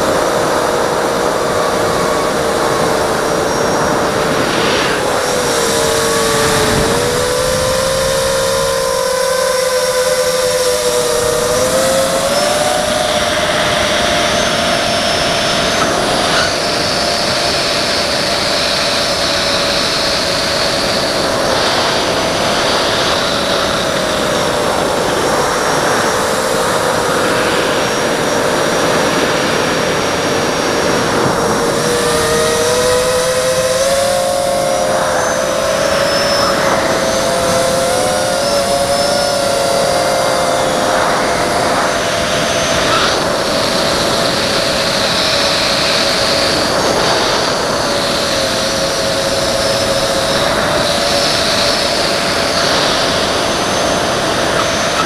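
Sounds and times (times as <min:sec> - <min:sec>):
drone motors buzzing whine: 0:00.0 - 0:55.0
rushing air: 0:00.0 - 0:55.0.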